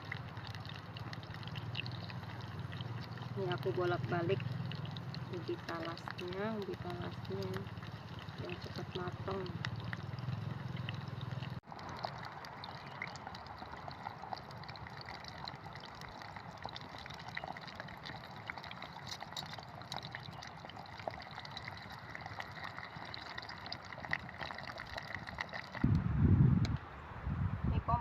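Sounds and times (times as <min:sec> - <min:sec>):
food deep-frying in oil: 0:00.0 - 0:25.9.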